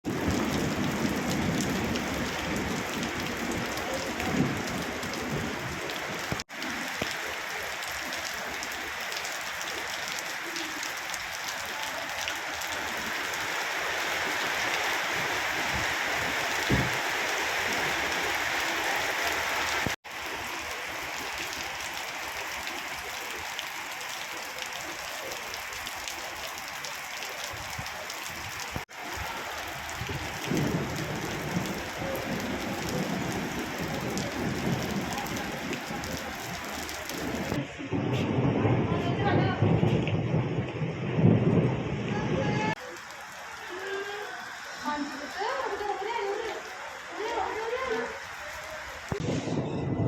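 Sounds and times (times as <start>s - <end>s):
rain falling steadily: 0.0s - 49.2s.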